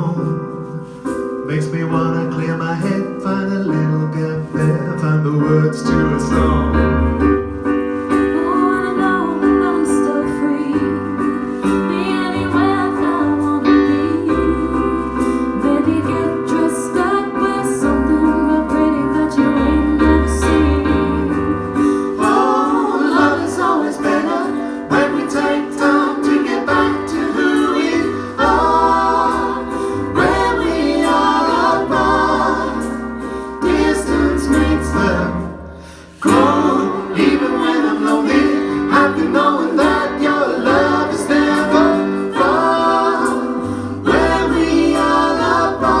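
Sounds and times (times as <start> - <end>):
folk band playing: 5.9 - 46.0
person singing: 8.3 - 33.0, 33.6 - 46.0.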